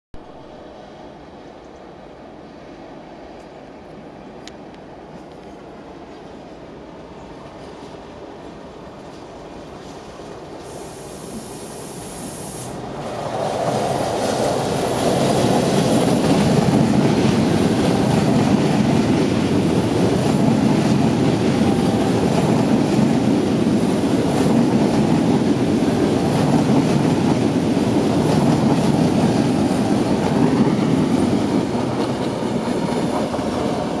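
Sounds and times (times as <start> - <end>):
train passing at speed: 0.2 - 34.0.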